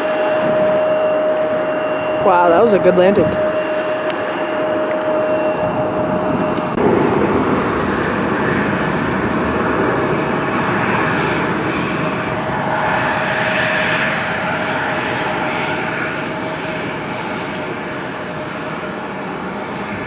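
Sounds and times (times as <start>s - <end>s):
jet engines roaring: 0.0s - 20.0s
thin engine whine: 0.0s - 20.0s.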